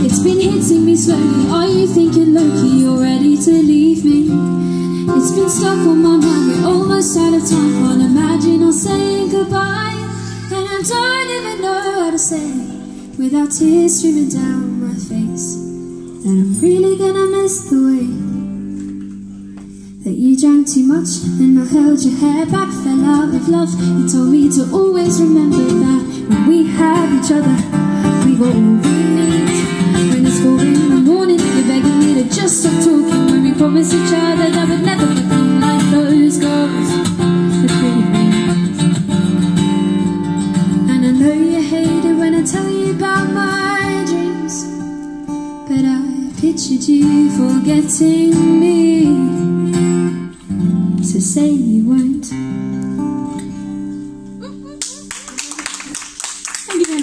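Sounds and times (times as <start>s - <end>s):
woman singing into microphone: 0.0s - 18.8s, 20.0s - 38.9s, 40.7s - 45.0s, 45.6s - 52.6s
acoustic guitar strummed: 0.0s - 55.1s.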